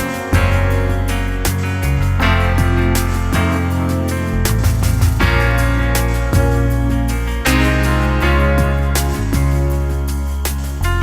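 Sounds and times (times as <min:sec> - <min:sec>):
guitar music: 0:00.0 - 0:11.0.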